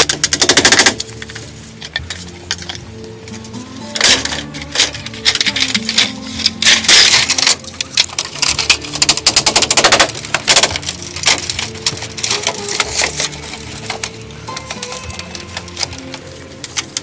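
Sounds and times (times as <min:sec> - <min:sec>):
rapid clicking and knocking: 0:00.0 - 0:02.8, 0:04.0 - 0:17.0
quiet background music: 0:00.0 - 0:17.0.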